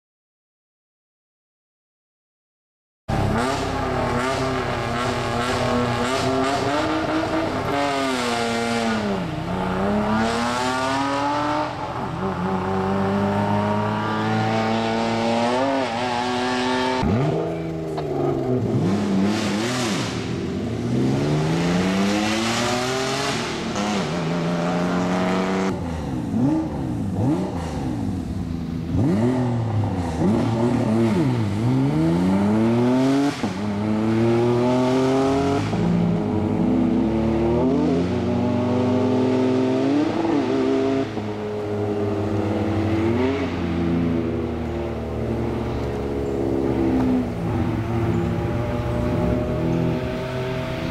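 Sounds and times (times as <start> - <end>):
rally car engines revving: 3.1 - 50.9.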